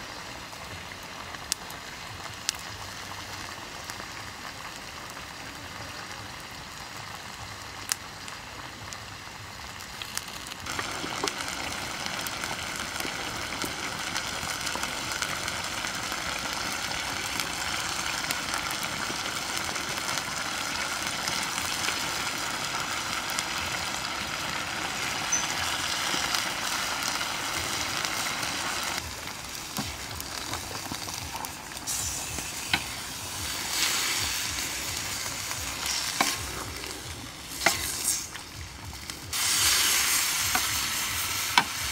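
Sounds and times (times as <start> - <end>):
fire crackling: 0.0 - 41.9
meat sizzling in a wok: 0.0 - 41.9.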